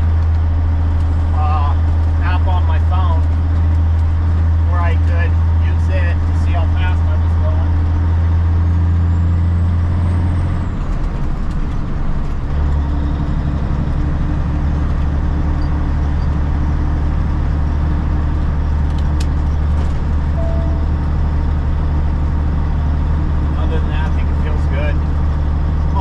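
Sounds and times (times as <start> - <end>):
road noise: 0.0 - 26.0
truck diesel engine drone: 0.0 - 26.0.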